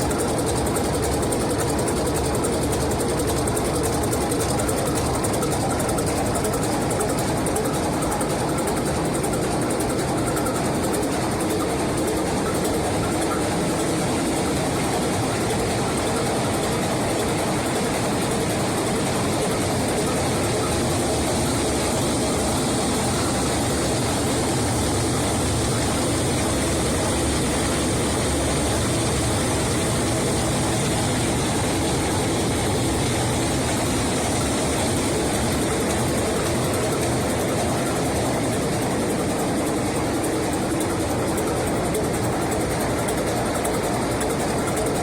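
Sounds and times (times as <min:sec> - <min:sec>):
stationary diesel engine running: 0:00.0 - 0:45.0.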